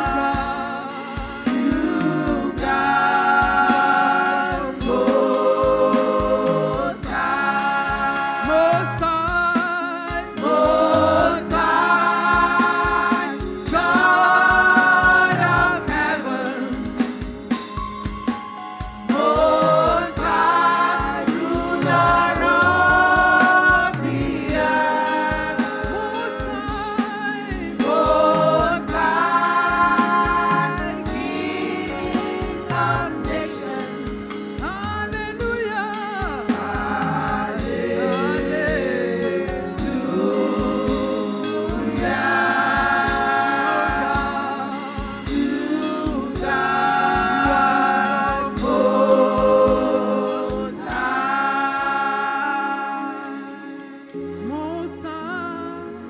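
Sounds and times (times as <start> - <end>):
voices singing held notes: 0.0 - 17.8, 18.8 - 56.0
live band with drum beat: 0.0 - 54.3.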